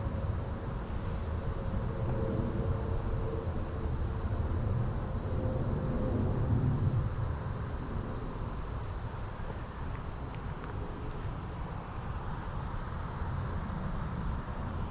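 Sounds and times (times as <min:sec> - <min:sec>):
insects droning: 0:00.0 - 0:14.9.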